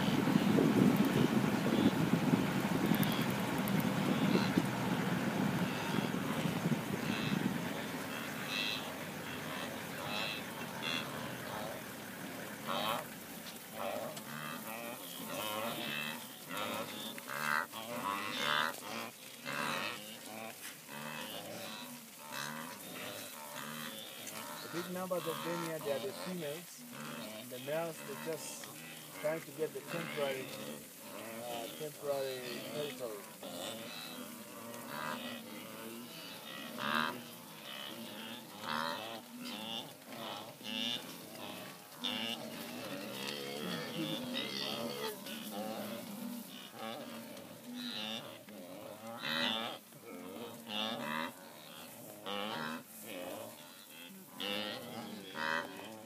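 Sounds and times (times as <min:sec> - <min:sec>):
wildebeest calling: 0:00.0 - 0:56.0.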